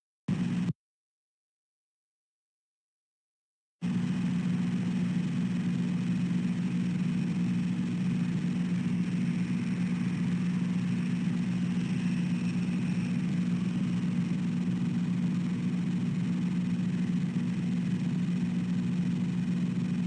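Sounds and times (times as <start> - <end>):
steady low hum: 0.3 - 0.7, 3.8 - 20.0.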